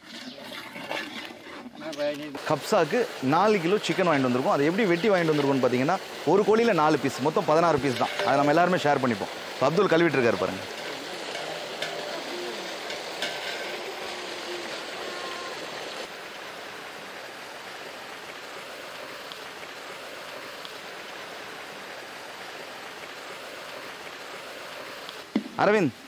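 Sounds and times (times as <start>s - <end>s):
water gushing into a tank: 0.0s - 25.0s.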